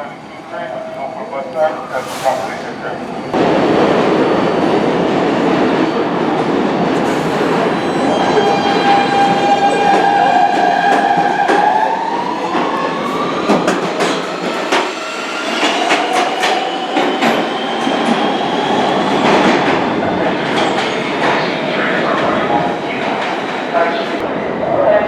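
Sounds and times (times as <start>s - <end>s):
subway train motors whining: 0.0s - 25.0s.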